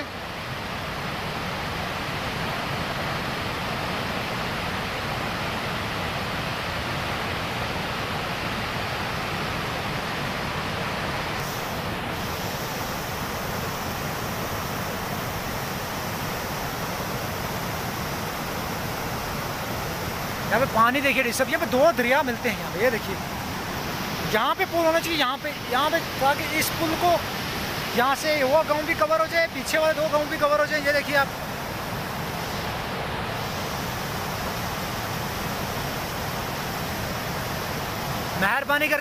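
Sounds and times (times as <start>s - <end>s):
stream rushing over rocks: 0.0s - 39.0s.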